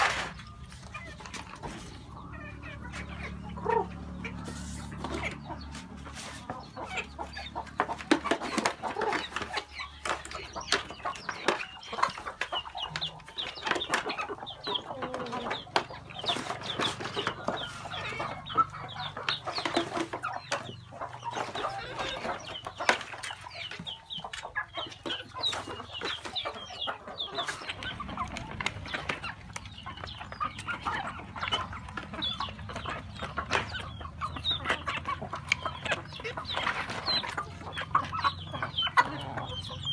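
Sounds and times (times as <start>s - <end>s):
hens and roosters clucking: 0.0s - 39.9s
beaks pecking plastic tray: 6.5s - 39.9s.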